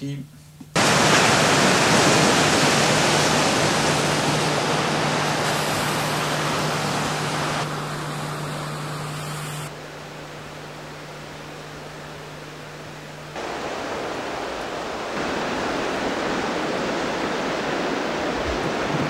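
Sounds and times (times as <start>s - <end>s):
low steady hum: 0.0s - 19.0s
rushing outdoor noise: 0.7s - 19.0s.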